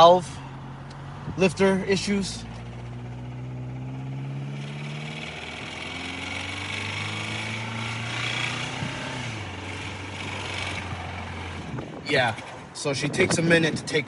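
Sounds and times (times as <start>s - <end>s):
car engine accelerating: 0.4s - 12.8s.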